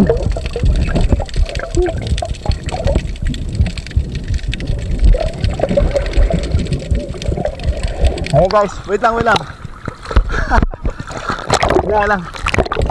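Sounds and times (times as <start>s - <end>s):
muffled underwater sloshing: 0.0s - 12.9s
small splashes and knocks: 0.0s - 12.9s.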